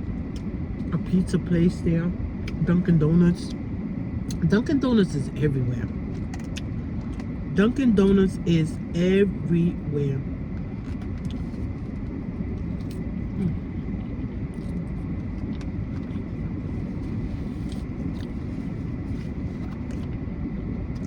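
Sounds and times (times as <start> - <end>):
car low rumble: 0.0 - 21.0.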